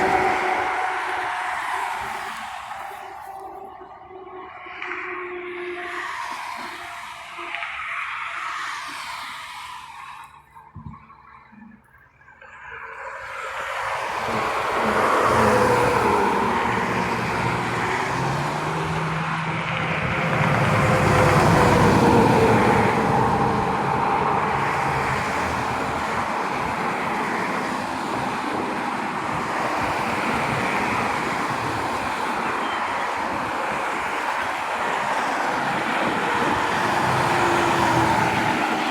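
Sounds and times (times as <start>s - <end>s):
traffic engine and road noise: 0.0s - 38.9s.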